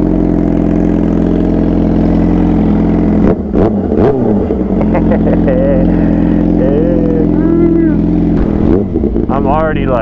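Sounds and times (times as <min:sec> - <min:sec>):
sport bike engine running: 0:00.0 - 0:10.0.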